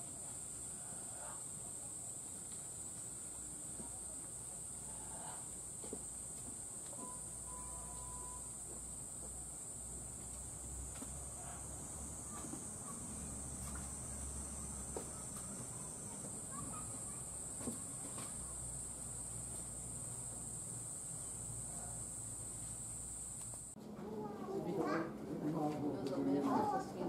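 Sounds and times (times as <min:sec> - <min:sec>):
high-pitched insect chorus: 0:00.0 - 0:23.8.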